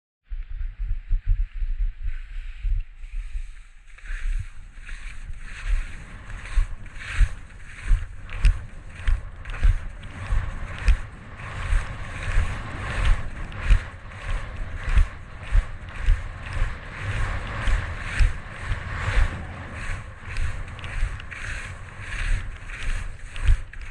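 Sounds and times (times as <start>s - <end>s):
skis scraping and thumping: 3.2s - 23.9s.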